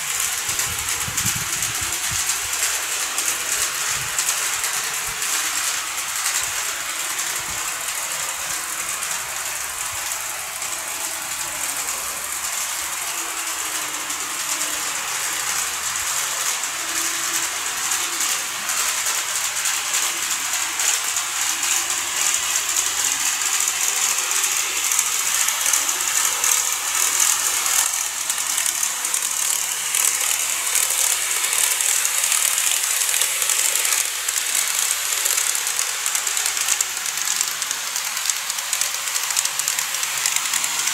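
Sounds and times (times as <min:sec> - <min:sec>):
model train rattling on track: 0:00.0 - 0:40.9.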